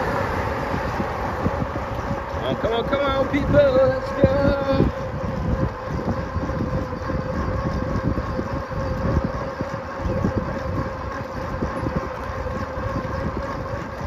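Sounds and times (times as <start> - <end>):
steady high whine: 0.0 - 14.0
wind buffeting microphone: 0.0 - 14.0.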